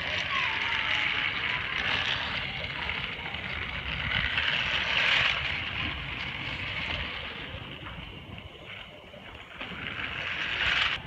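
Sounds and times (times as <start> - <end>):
toy train motor whir: 0.0 - 11.0
wheels rattling on track: 0.0 - 11.0.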